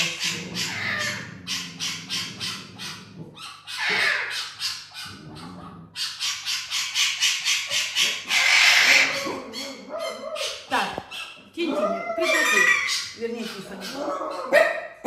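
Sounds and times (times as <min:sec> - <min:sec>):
parrot squawking: 0:00.0 - 0:14.7.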